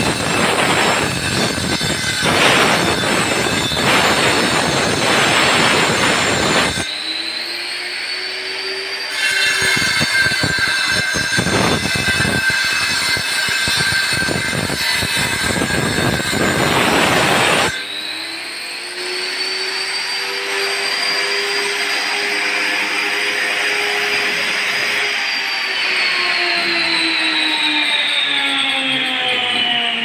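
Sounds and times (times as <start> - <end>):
angle grinder cutting brick: 0.0 - 27.5.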